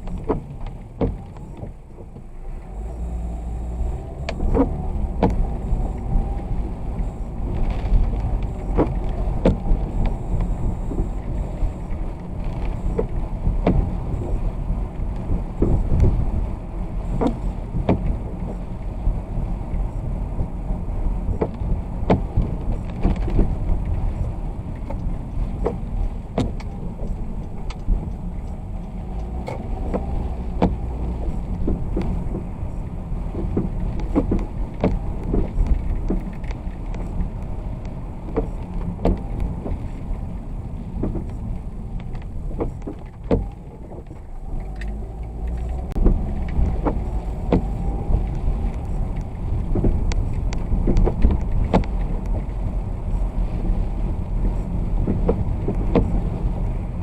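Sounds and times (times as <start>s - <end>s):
raindrops ticking on windshield: 0.0s - 57.0s
vehicle engine and road rumble: 0.0s - 57.0s.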